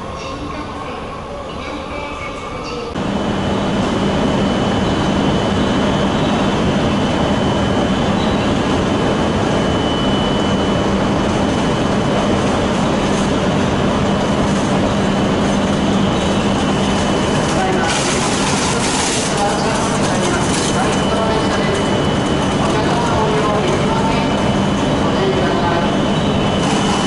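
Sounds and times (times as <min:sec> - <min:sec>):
train humming with low drone: 0:00.0 - 0:27.0
thin high whine: 0:03.0 - 0:27.0.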